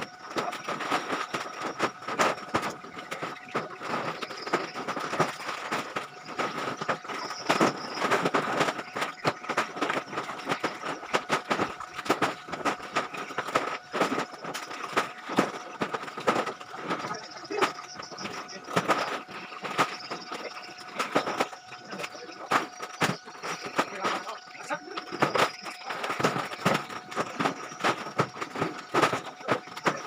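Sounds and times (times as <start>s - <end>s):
faint steady hum: 0.0s - 30.0s
knocks and thumps: 0.0s - 30.0s
plastic sacks clattering and rustling: 0.0s - 30.0s.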